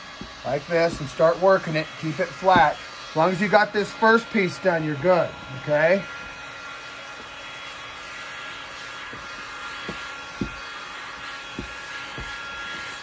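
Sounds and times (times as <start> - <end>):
heat gun fan hissing: 0.0 - 13.0.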